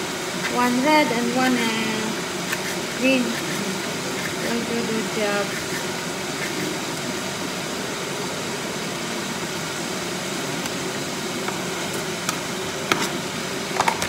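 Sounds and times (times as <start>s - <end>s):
fan-like rushing noise: 0.0s - 14.0s.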